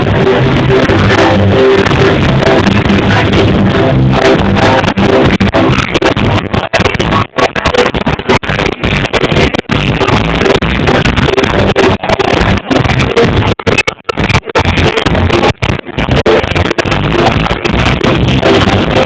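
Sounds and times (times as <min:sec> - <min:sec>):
distorted live reggae band: 0:00.0 - 0:19.0.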